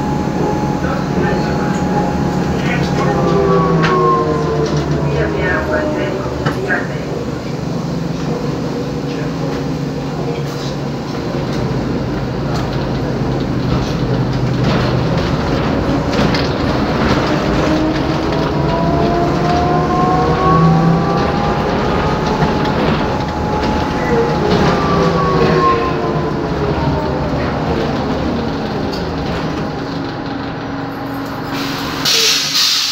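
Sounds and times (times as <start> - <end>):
bus interior rumble: 0.0 - 32.9.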